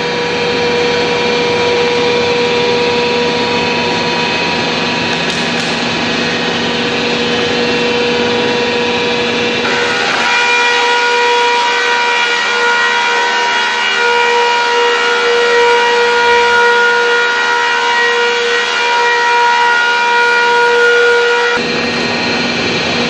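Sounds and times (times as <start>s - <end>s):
machine whining steadily: 0.0s - 23.0s.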